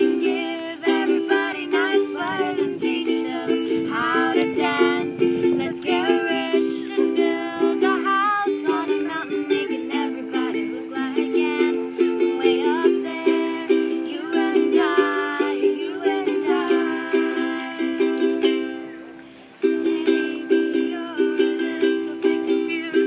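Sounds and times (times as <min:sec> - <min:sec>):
women singing: 0:00.0 - 0:18.9, 0:19.6 - 0:23.0
ukulele strumming: 0:00.0 - 0:23.0.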